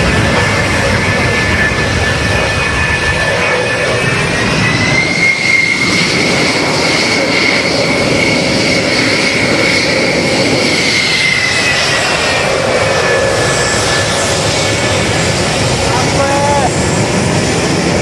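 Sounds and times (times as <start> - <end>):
jet engines idling: 0.0 - 18.0.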